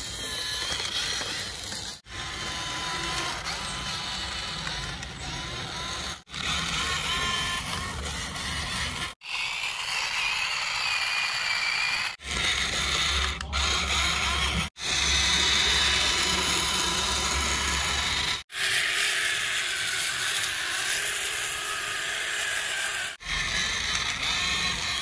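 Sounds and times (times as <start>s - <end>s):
toy vehicle motors whirring: 0.0s - 25.0s.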